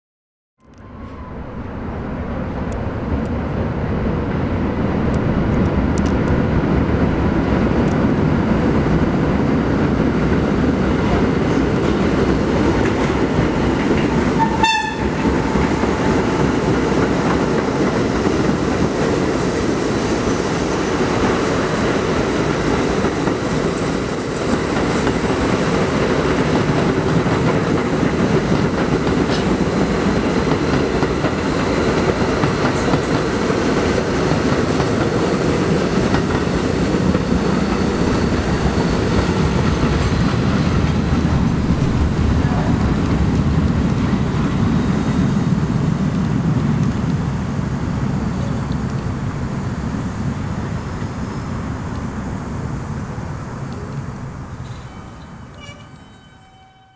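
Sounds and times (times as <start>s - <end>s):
subway train wheels clattering: 0.8s - 56.9s.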